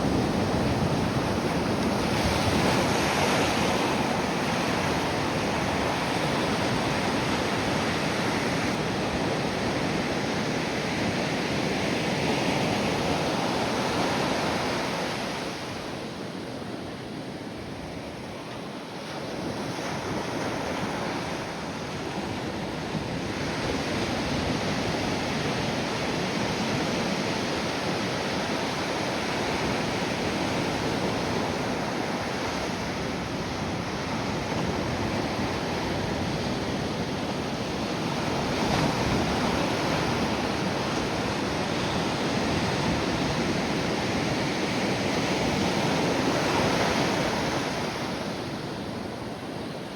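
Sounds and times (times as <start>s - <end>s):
wind buffeting microphone: 0.0s - 18.4s, 19.2s - 49.9s
ocean surf washing on beach: 0.0s - 49.9s.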